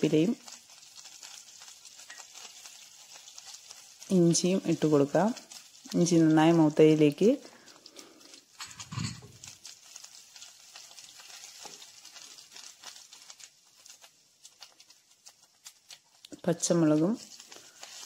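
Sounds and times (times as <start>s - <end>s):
spices frying in hot oil: 0.0s - 18.0s
wooden spatula stirring: 0.5s - 18.0s.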